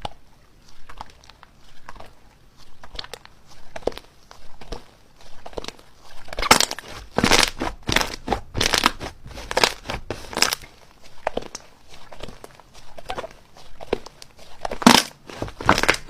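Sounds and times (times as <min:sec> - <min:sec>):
slime crackling and popping: 0:02.8 - 0:16.0.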